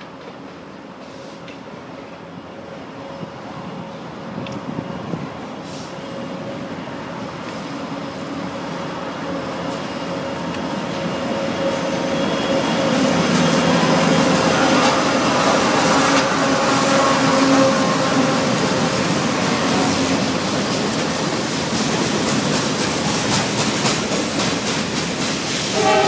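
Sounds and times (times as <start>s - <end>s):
diesel locomotives passing: 0.0s - 26.0s.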